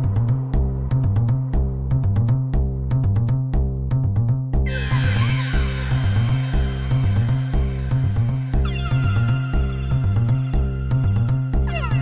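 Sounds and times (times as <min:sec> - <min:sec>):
background music with beat and bass: 0:00.0 - 0:12.0.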